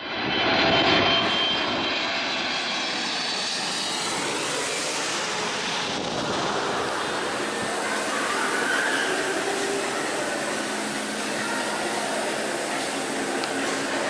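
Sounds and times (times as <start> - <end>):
jet engine roar in cabin: 0.0 - 14.0.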